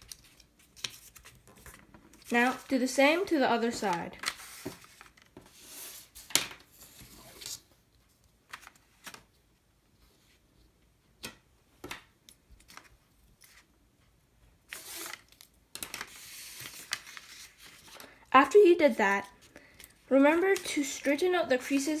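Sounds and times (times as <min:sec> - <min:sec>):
paper rustling and crinkling: 0:00.0 - 0:09.4, 0:12.6 - 0:13.7, 0:14.7 - 0:22.0.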